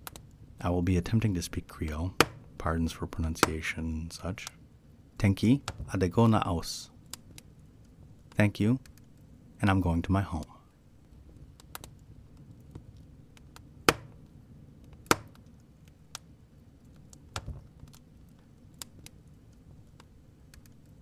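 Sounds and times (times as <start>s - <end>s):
wood fire crackling and popping: 0.0s - 9.6s, 10.4s - 21.0s
low fire rumble: 0.0s - 21.0s.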